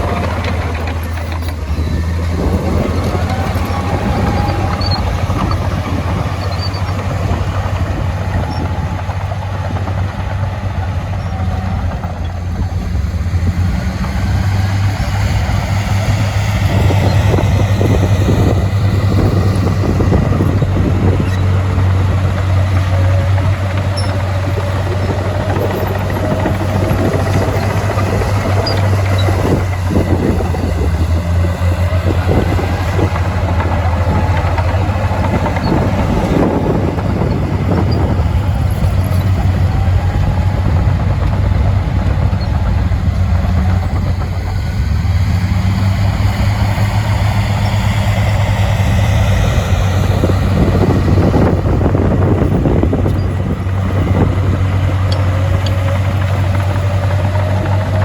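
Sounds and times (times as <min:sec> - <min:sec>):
heavy diesel engine running: 0:00.0 - 0:58.0
rattles and clanks: 0:00.0 - 0:58.0.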